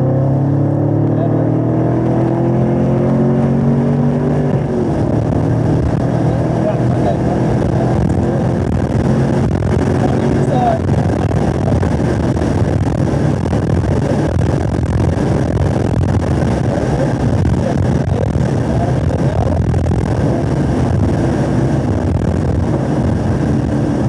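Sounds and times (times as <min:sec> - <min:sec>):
car engine at high revs: 0:00.0 - 0:24.0.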